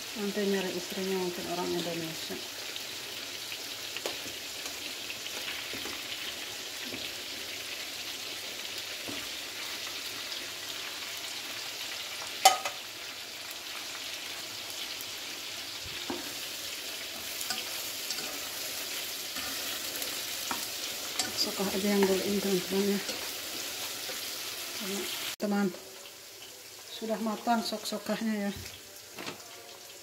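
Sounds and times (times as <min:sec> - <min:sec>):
nuggets sizzling in hot oil: 0:00.0 - 0:30.0.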